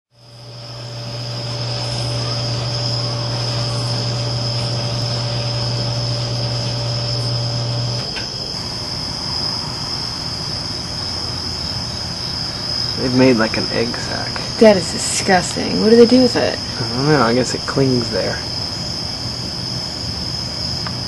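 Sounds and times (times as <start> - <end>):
crickets trilling: 0.1 - 21.0
low steady hum: 0.2 - 21.0.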